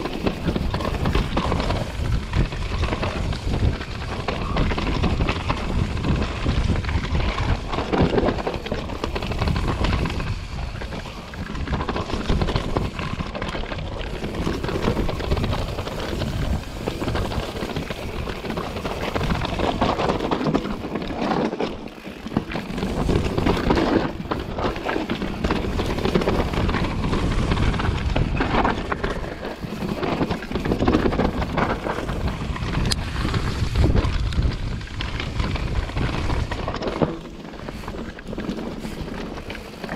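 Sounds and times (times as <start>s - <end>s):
bike rattling over rocks: 0.0s - 39.9s
tyres crunching over loose stones: 0.0s - 39.9s
wind buffeting microphone: 0.0s - 39.9s.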